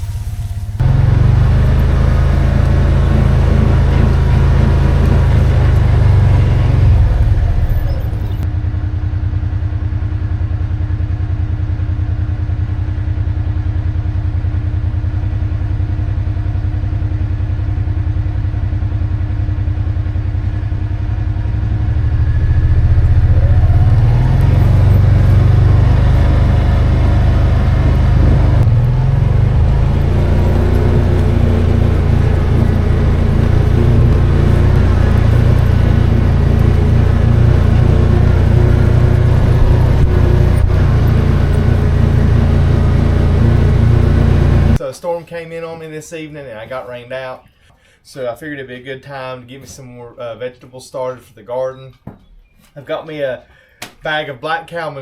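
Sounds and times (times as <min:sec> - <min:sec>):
motor engine running: 0:00.0 - 0:44.8.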